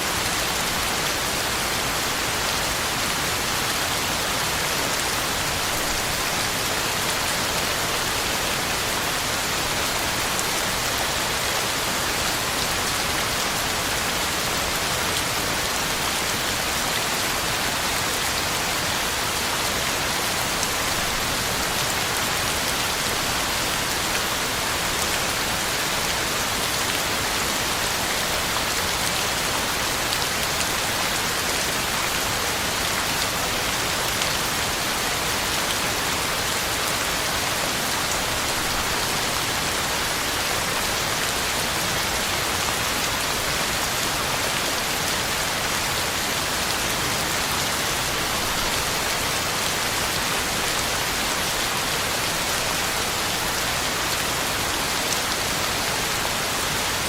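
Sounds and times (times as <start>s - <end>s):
heavy rain on leaves and ground: 0.0s - 57.0s.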